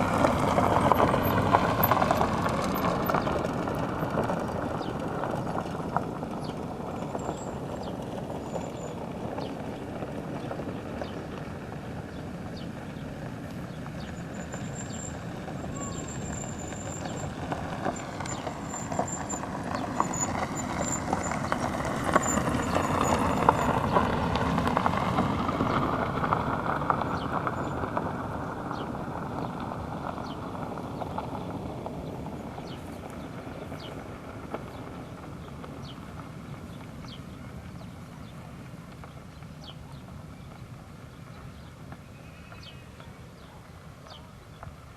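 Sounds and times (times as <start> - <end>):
diesel locomotive passing: 0.0 - 39.0
wheels clicking on rails: 0.0 - 44.9.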